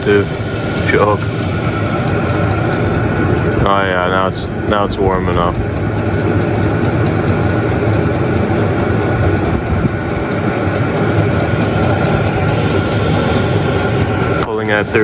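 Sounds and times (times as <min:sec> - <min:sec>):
faint fast ticking: 0:00.0 - 0:15.0
heater blower and burner rush: 0:00.0 - 0:15.0
steady whine: 0:00.0 - 0:15.0.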